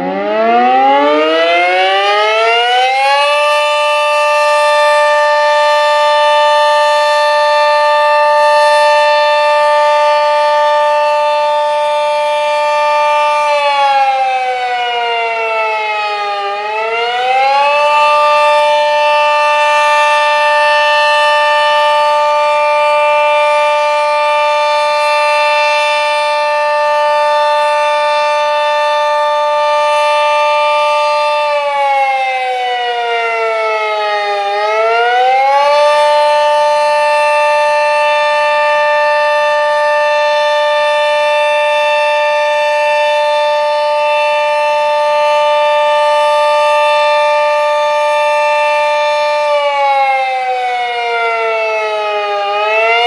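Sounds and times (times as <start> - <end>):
dual-tone warning siren: 0.0 - 53.0.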